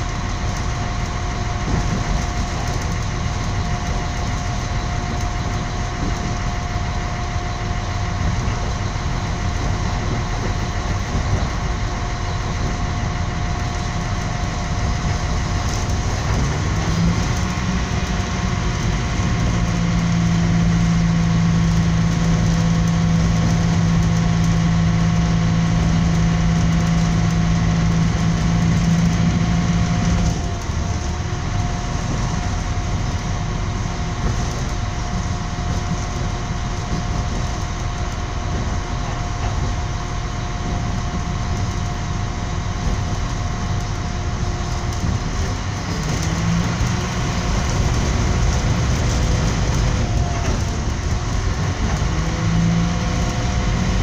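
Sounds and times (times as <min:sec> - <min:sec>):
train rumbling inside carriage: 0:00.0 - 0:54.0.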